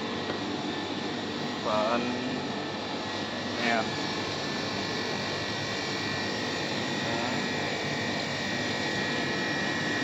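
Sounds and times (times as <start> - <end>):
freezer fan and compressor whirring: 0.0 - 10.0.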